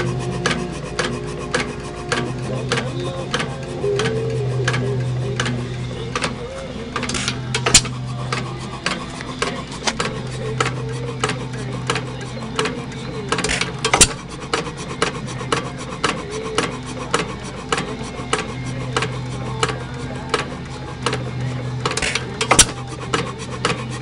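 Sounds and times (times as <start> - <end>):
engine firing reports: 0.0 - 24.0
hit-and-miss engine clicking: 0.0 - 24.0.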